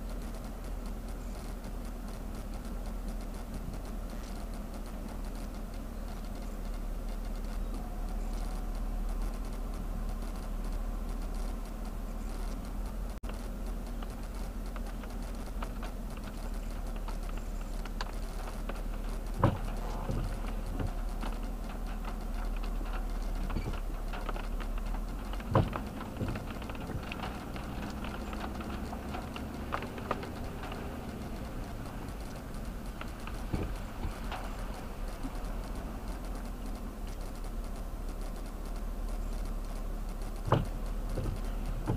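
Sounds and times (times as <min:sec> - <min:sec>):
car interior rumble: 0:00.0 - 0:41.9
light tapping: 0:00.0 - 0:41.9.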